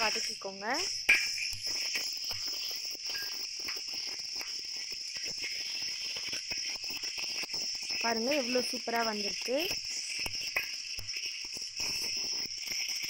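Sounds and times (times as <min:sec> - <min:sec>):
spatula scraping a pan: 0:00.0 - 0:13.0.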